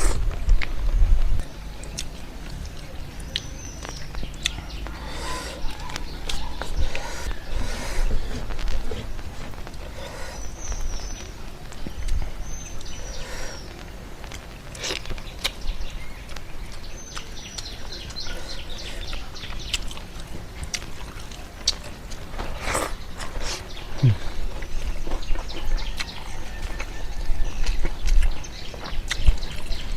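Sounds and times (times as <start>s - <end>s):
birds chirping: 0.0s - 29.9s
chewing mouth sounds: 1.4s - 15.6s, 16.2s - 29.9s.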